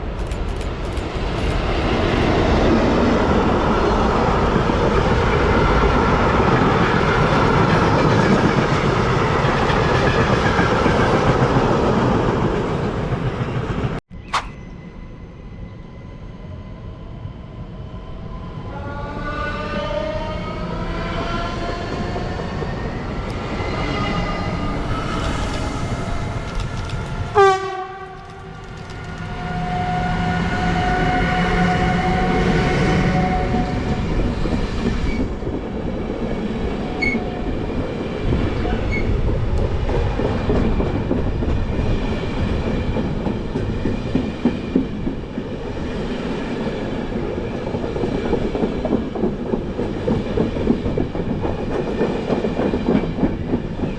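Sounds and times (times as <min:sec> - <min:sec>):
train wheels rumbling on rails: 0:00.0 - 0:14.4, 0:21.2 - 0:53.9.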